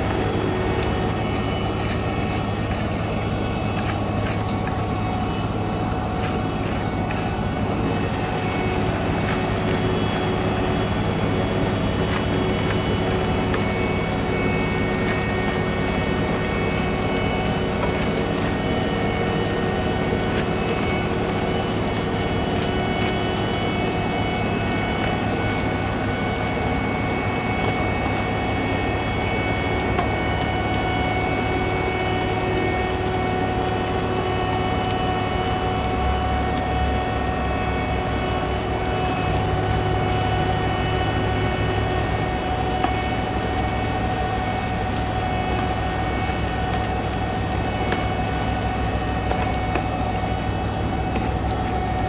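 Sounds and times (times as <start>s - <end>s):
diesel machinery engine drone: 0.0s - 52.0s.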